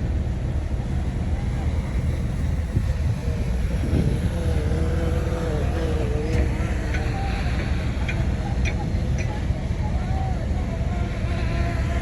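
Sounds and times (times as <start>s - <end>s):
bulldozer diesel engine rumbling: 0.0s - 12.0s
wavering whine: 0.0s - 12.0s.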